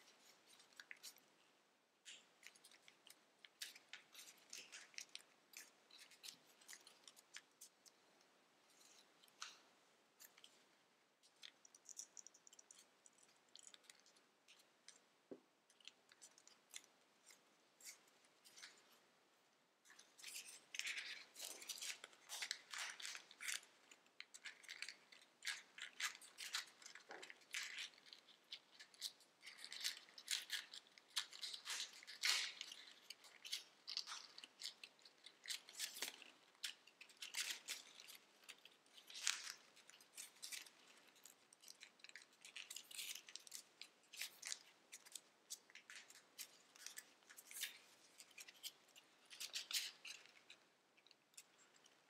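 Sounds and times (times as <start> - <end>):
paper crinkling: 0.0 - 1.3, 2.0 - 15.0, 19.8 - 52.0.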